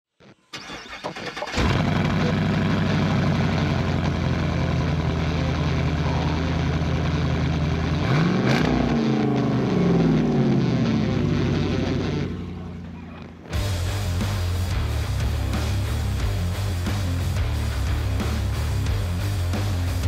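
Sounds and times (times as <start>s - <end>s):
engine cranking and idling: 0.6s - 20.0s
engine revving: 1.4s - 20.0s.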